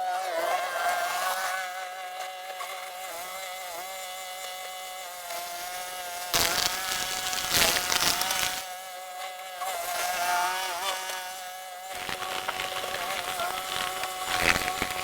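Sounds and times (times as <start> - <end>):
small petrol engine buzzing: 0.0 - 15.0.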